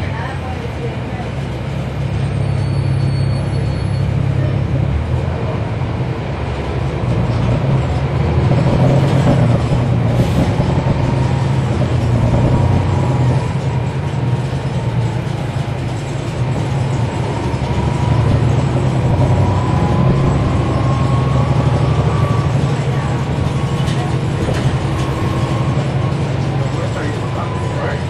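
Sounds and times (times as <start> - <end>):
bus diesel engine hum: 0.0 - 28.0.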